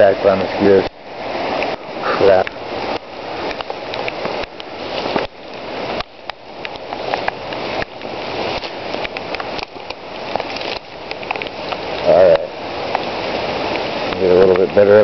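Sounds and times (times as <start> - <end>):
heavy rain hissing: 0.0 - 15.0
raindrop hits: 0.0 - 15.0.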